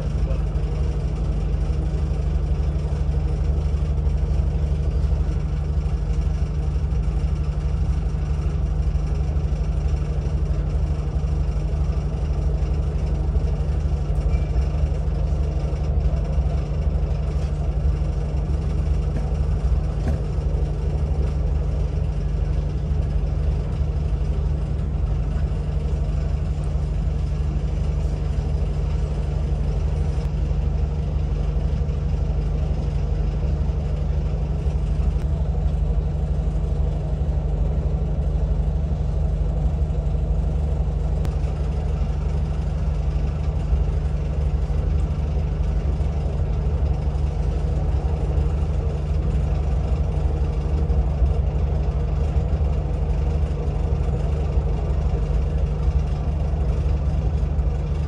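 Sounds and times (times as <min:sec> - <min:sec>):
train engine idling hum: 0:00.0 - 0:58.0.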